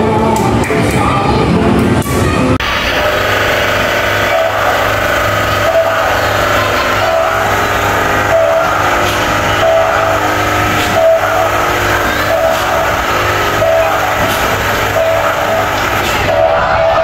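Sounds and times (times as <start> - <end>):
steady hum: 0.0 - 17.0
electronic machine tones: 2.6 - 17.0.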